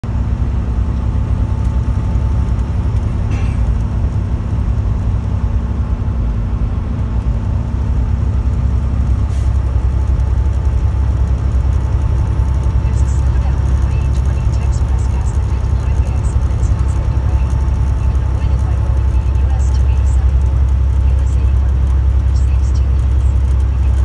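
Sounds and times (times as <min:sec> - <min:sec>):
road noise: 0:00.0 - 0:24.0
truck engine rumble: 0:00.0 - 0:24.0.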